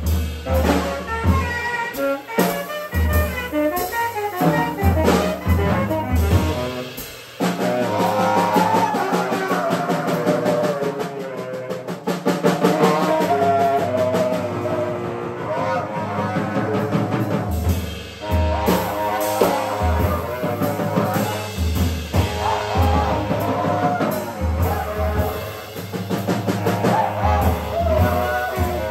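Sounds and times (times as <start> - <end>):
rapid drum and cymbal strokes: 0.0 - 28.9
wavering saxophone line: 0.4 - 10.3, 12.6 - 17.6, 18.2 - 28.9.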